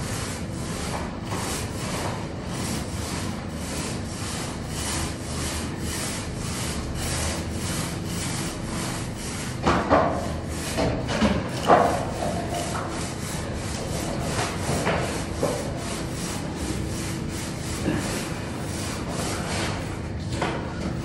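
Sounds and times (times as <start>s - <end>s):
hand strokes scraping a wall: 0.0s - 21.0s.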